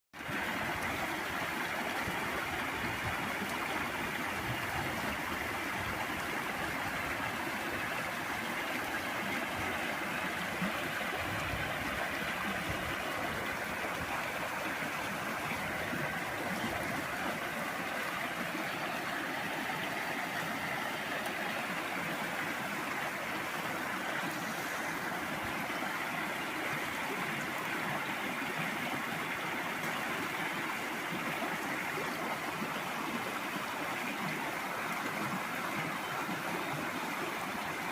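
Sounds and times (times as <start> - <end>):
flowing water rushing: 0.2 - 37.9.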